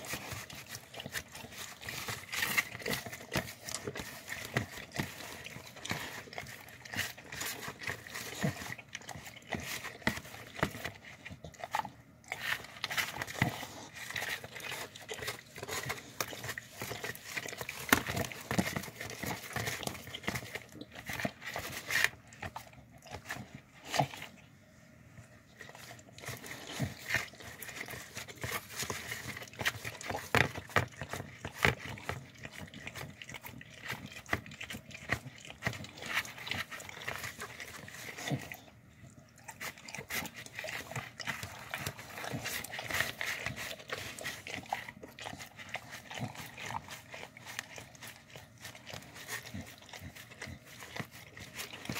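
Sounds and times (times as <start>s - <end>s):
dogs chewing and licking: 0.0s - 51.9s.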